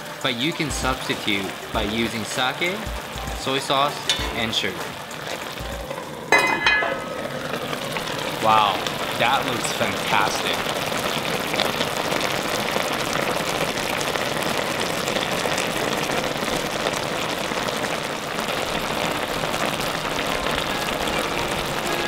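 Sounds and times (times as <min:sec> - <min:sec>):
pot simmering and sizzling: 0:00.0 - 0:22.0.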